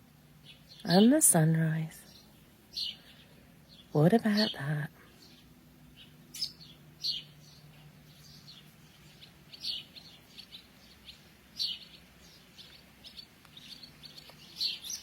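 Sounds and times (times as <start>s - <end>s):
faint steady hum: 0.0s - 15.0s
songbirds chirping: 0.0s - 15.0s.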